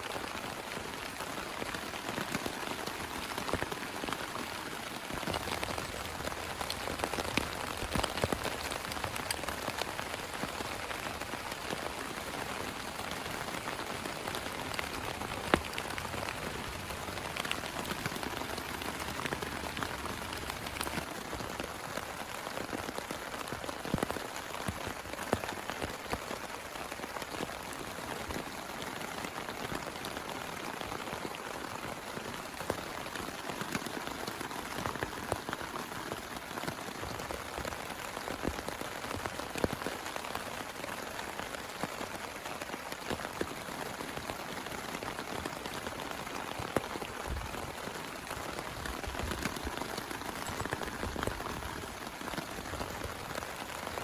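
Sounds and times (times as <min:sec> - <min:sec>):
heavy rain: 0:00.0 - 0:54.0
raindrops ticking close by: 0:00.0 - 0:54.0.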